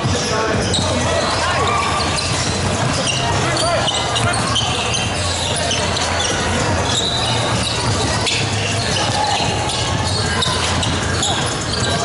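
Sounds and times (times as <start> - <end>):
echoing sports hall background: 0.0 - 12.0
sneakers squeaking on floor: 0.0 - 12.0.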